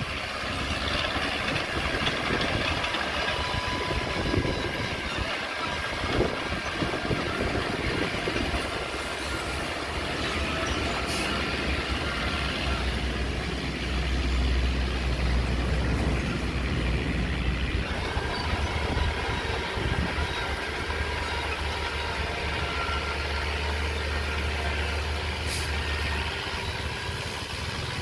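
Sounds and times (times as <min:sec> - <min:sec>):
diesel earthmoving machinery rumble: 0:00.0 - 0:28.0.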